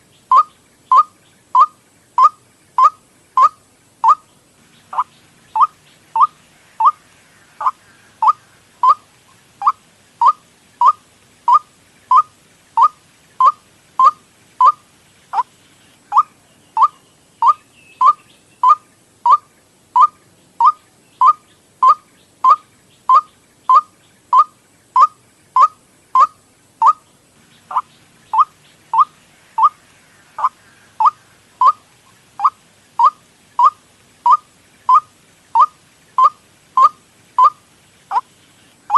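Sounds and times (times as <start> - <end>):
waterhen call notes: 0.2 - 15.5, 16.1 - 38.9.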